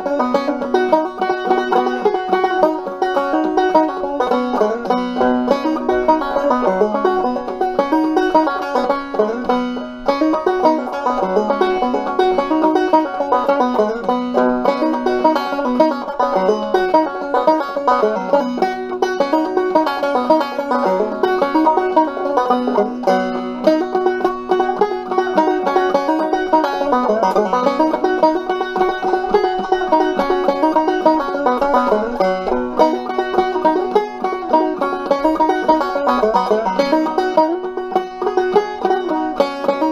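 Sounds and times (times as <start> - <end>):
banjo plucked and strummed: 0.0 - 39.9.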